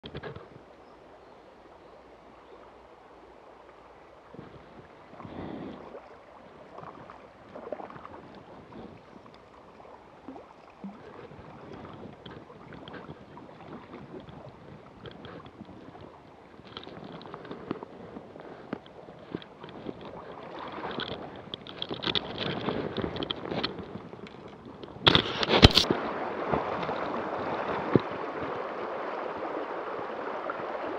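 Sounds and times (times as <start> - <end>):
water splashing from wading: 2.5 - 30.9.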